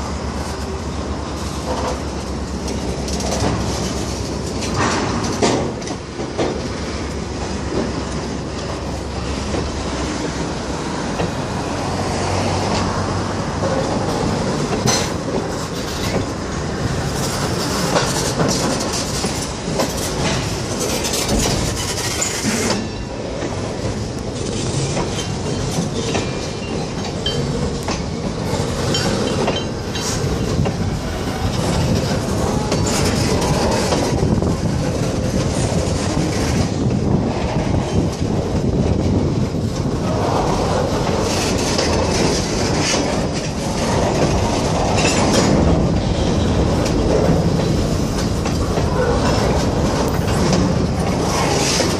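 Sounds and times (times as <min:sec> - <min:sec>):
freight train wheels clacking: 0:00.0 - 0:51.9
rumble and creak of cars: 0:00.0 - 0:51.9.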